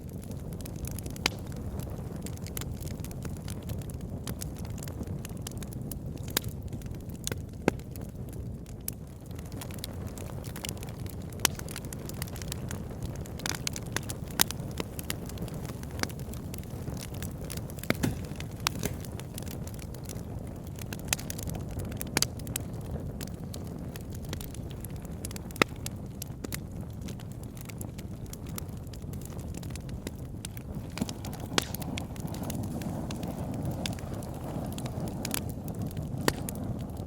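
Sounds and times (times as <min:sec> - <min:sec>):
fire crackling and popping: 0:00.0 - 0:37.0
fire flames rumbling: 0:00.0 - 0:37.0.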